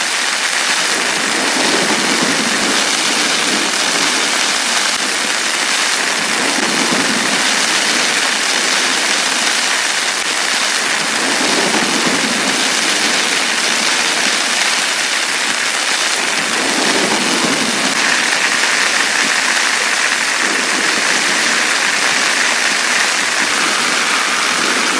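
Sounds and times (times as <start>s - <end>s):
heavy rain hiss: 0.0s - 24.9s.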